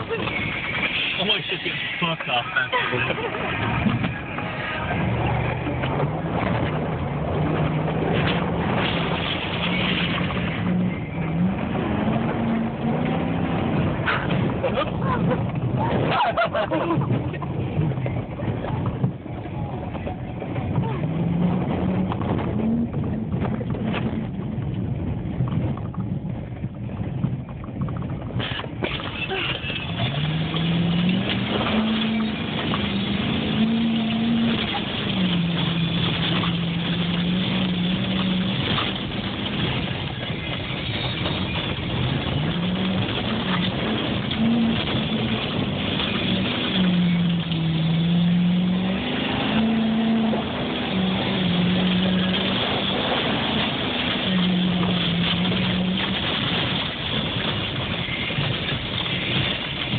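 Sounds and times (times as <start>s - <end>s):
pickup engine revving: 0.0s - 19.4s, 26.9s - 59.9s
rough rumbling of driving off-road: 0.0s - 59.9s.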